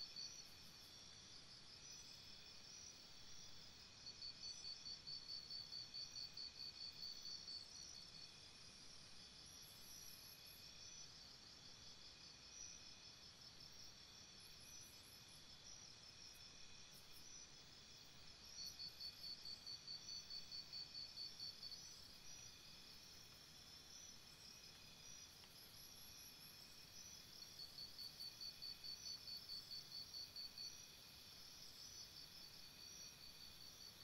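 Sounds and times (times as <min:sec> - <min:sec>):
night insects chirring: 0:00.0 - 0:34.0.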